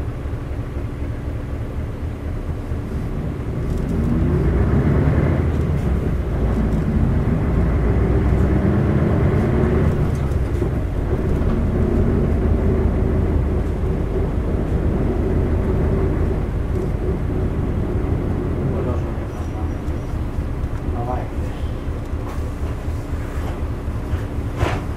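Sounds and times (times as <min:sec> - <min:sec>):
bus diesel engine drone: 0:00.0 - 0:24.9.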